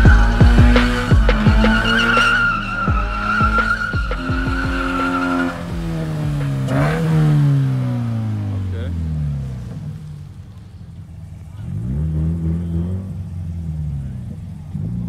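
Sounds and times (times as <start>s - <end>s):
tyres squealing: 0.0s - 13.1s
car engine revving: 0.0s - 15.0s.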